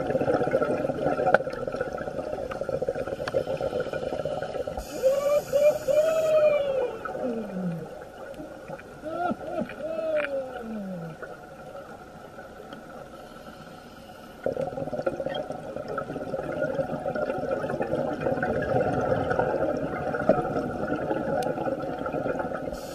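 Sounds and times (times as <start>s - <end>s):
underwater regulator bubbles gurgling: 0.0s - 12.0s, 14.4s - 22.9s.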